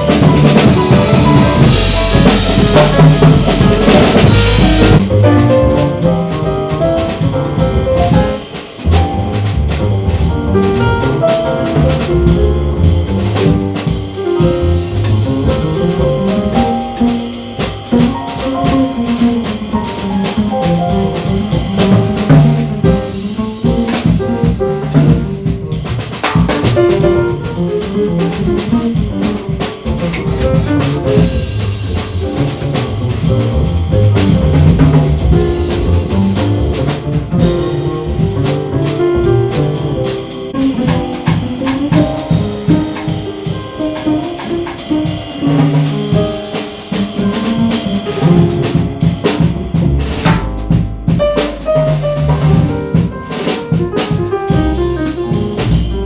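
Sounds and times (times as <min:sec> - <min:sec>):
cymbal and drum strokes: 0:00.0 - 0:56.0
jazz piano trio playing: 0:00.0 - 0:56.0.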